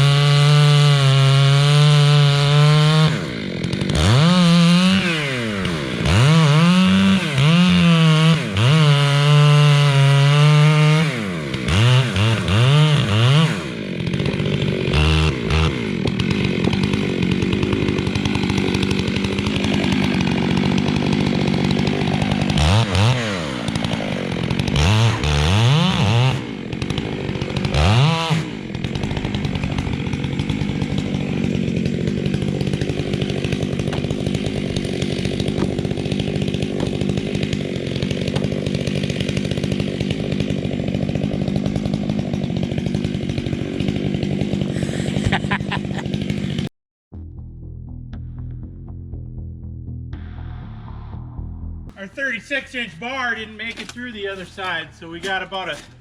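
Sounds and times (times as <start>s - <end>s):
chainsaw revving and cutting wood: 0.0s - 46.7s, 51.9s - 56.0s.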